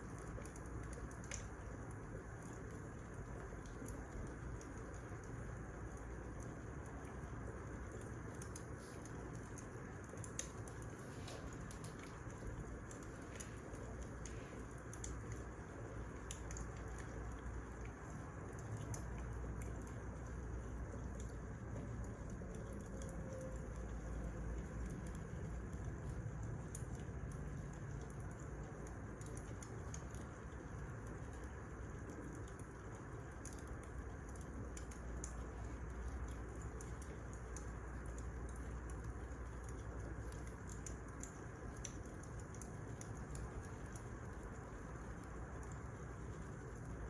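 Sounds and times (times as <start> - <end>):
low rumble of flames: 0.0 - 47.0
wood fire crackling: 0.0 - 47.0.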